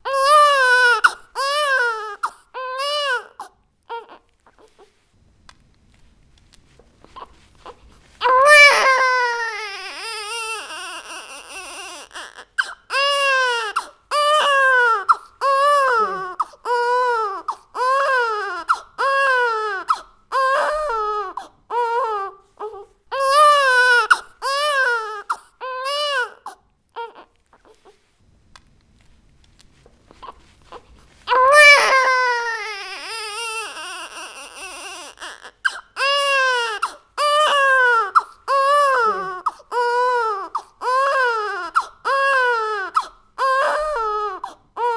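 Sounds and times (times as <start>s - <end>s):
baby crying: 0.0s - 4.8s, 8.2s - 27.9s, 30.2s - 44.9s.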